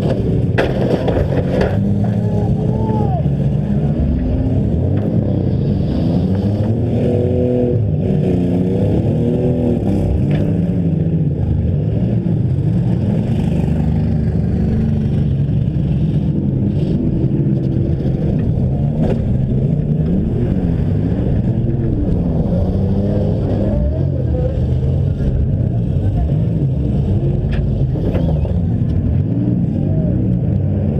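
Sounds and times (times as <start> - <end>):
demolition derby engines revving: 0.0 - 30.9.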